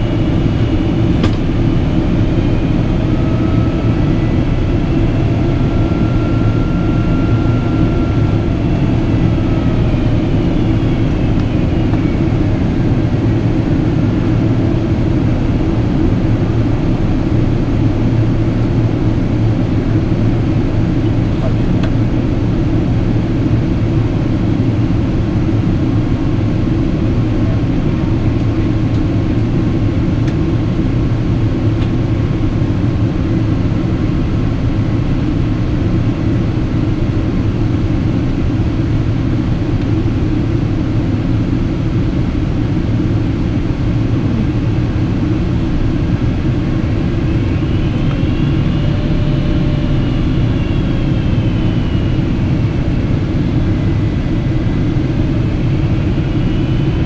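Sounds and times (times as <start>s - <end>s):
airliner cabin roar: 0.0s - 57.0s.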